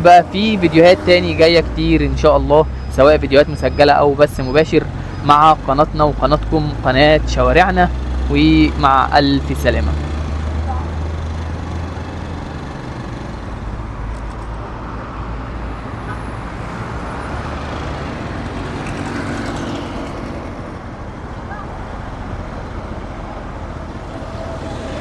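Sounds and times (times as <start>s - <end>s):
car engines: 0.0s - 25.0s
road noise with low rumble: 0.0s - 25.0s.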